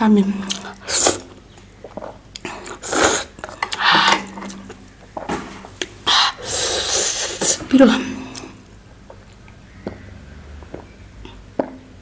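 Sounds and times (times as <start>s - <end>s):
wet noisy chewing: 0.4s - 11.9s.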